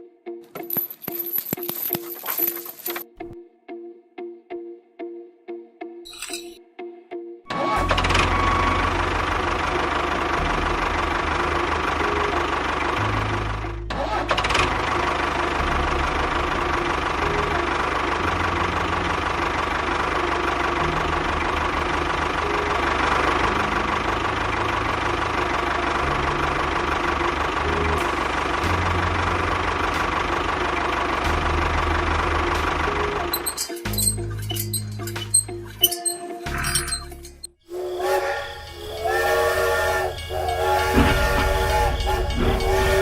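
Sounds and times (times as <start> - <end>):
tractor engine chugging: 7.5 - 43.0.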